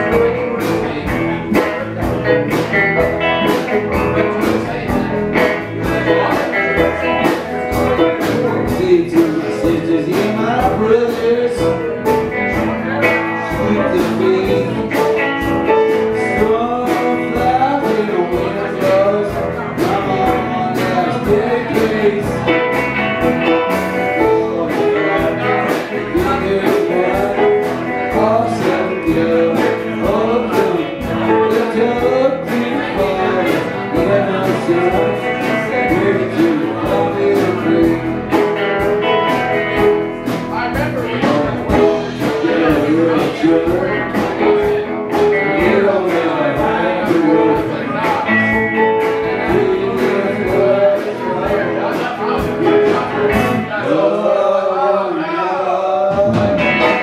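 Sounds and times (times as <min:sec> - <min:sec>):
drums: 0:00.0 - 0:54.5, 0:55.8 - 0:57.0
electric guitars: 0:00.0 - 0:57.0
keyboard: 0:00.0 - 0:57.0
person singing lead vocal: 0:00.0 - 0:57.0.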